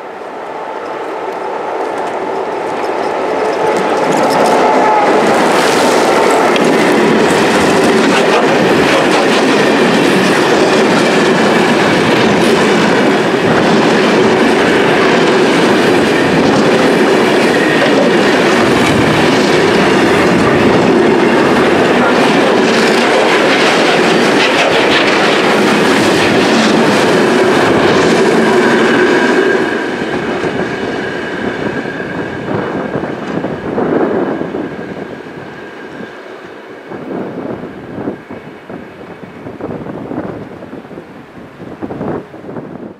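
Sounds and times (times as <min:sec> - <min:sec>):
train running on rails: 0:00.0 - 0:42.9.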